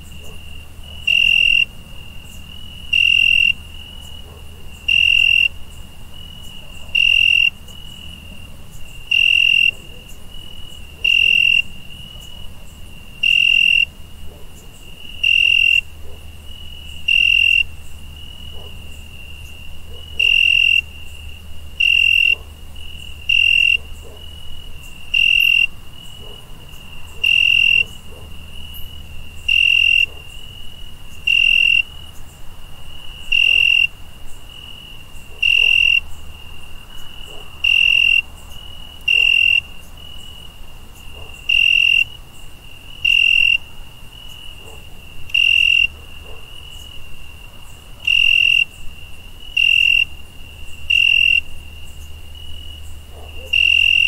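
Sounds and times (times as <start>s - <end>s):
cricket chirps: 0.0s - 54.0s
crickets trilling: 0.0s - 54.0s.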